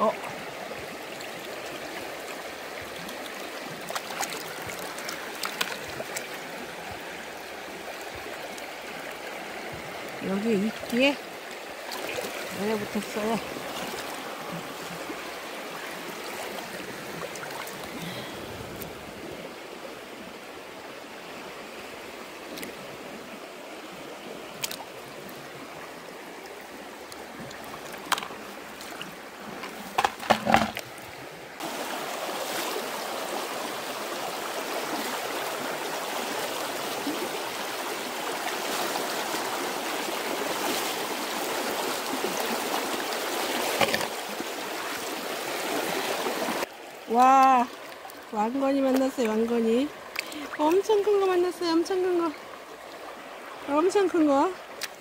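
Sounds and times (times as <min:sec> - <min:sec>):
rocky stream rushing: 0:00.0 - 0:55.0.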